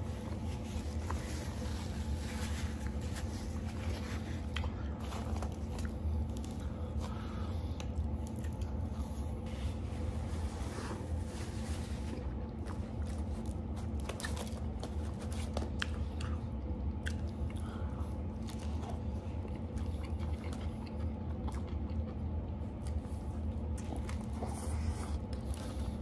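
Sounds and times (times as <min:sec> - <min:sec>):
chewing and biting burger: 0:00.0 - 0:09.5, 0:12.1 - 0:26.0
steady low hum: 0:00.0 - 0:26.0.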